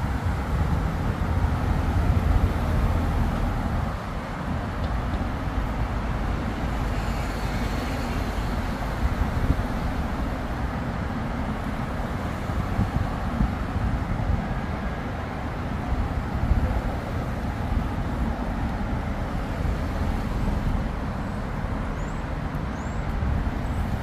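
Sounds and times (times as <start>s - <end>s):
vehicles passing with low rumble: 0.0s - 24.0s.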